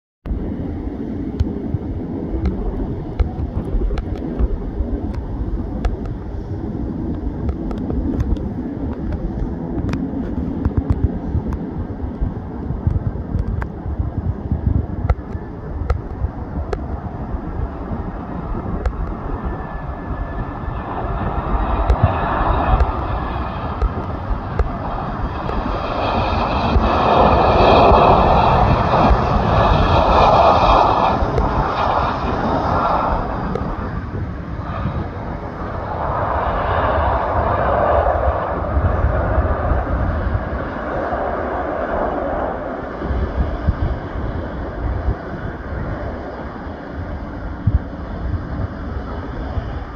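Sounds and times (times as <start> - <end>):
airliner jet engine noise: 0.2 - 49.9
wind rumble on microphone: 0.2 - 49.9.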